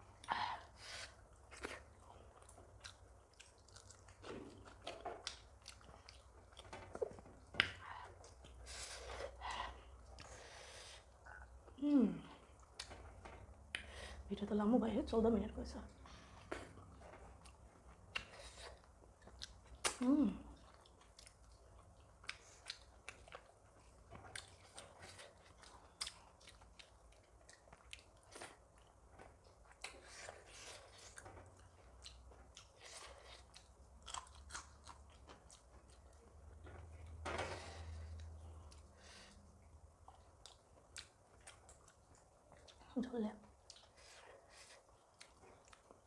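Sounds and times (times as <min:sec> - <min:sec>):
close-up chewing food: 0:00.0 - 0:14.3, 0:15.9 - 0:46.0.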